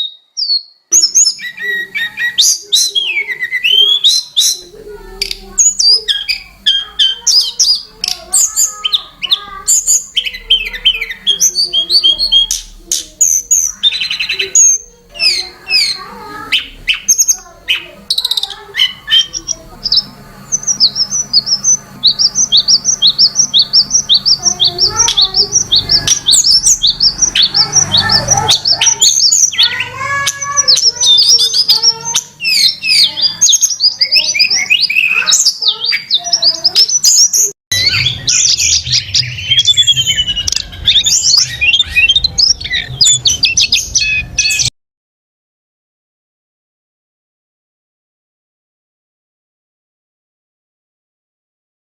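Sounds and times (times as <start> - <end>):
songbirds chirping and singing: 0.0 - 44.7.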